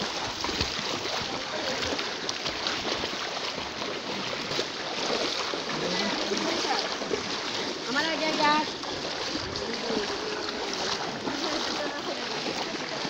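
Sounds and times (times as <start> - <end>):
people wading through water: 0.0 - 13.0.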